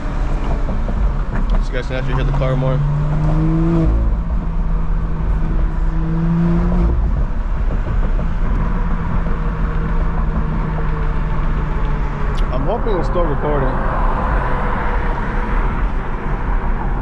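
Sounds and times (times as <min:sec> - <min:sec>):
car engine under way: 0:00.0 - 0:17.0
road rumble: 0:00.0 - 0:17.0.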